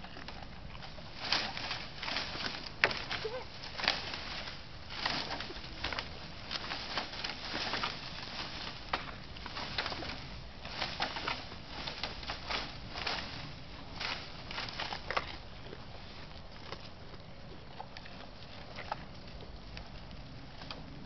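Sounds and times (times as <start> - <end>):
bamboo canes rustling and crackling: 0.0 - 21.0.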